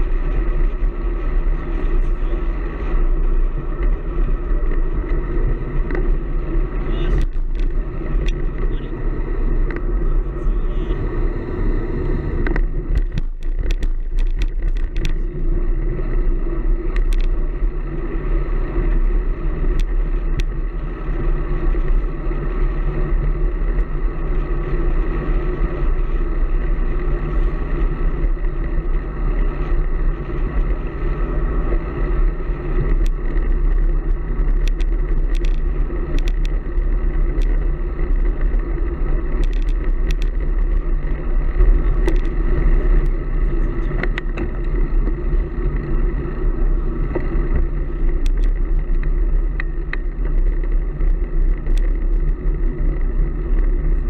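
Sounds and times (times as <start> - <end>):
bike clicks and rattles: 0.0 - 54.0.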